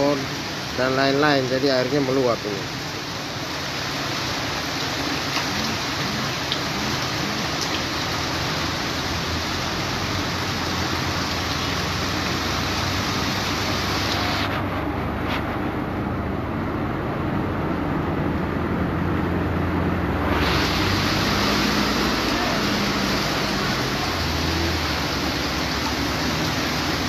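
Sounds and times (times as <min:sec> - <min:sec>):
floodwater rushing: 0:00.0 - 0:27.0
rain: 0:00.0 - 0:27.0
vehicles driving through water: 0:00.0 - 0:27.0.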